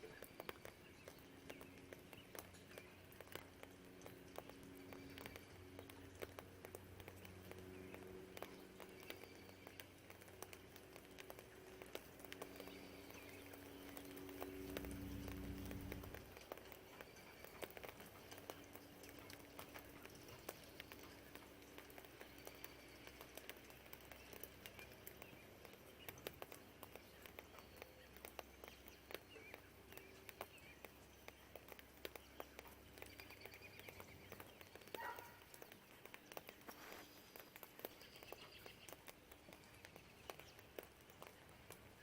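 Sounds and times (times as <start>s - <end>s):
birds chirping: 0.0s - 42.0s
distant traffic hum: 0.0s - 42.0s
rain dripping: 0.0s - 42.0s.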